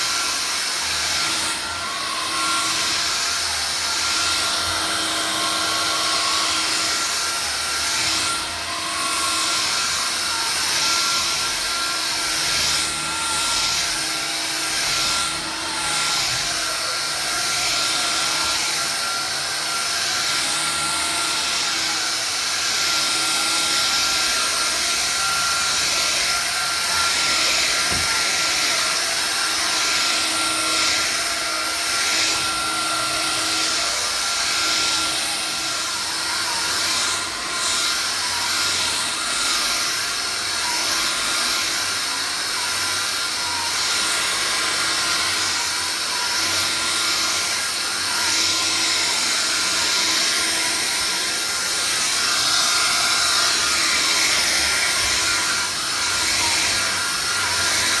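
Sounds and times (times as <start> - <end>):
vacuum cleaner motor whine: 0.0 - 58.0.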